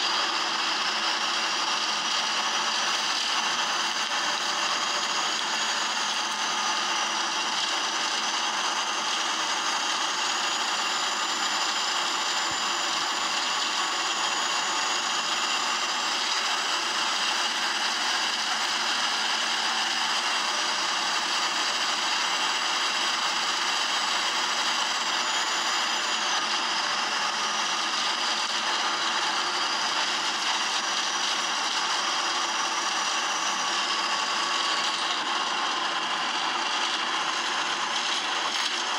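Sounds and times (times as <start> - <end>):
bus engine running: 0.0 - 38.9
high whines: 0.0 - 38.9.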